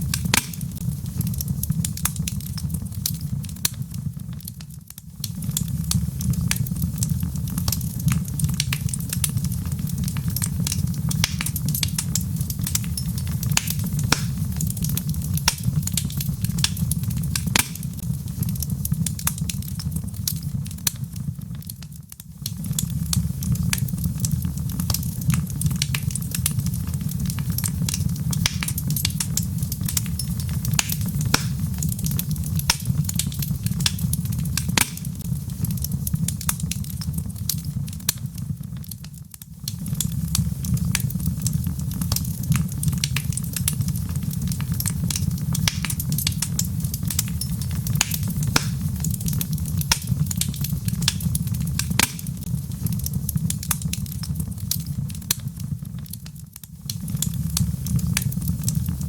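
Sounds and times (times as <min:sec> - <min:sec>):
low fire rumble: 0:00.0 - 0:59.0
wood logs crackling in fireplace: 0:00.0 - 0:59.0.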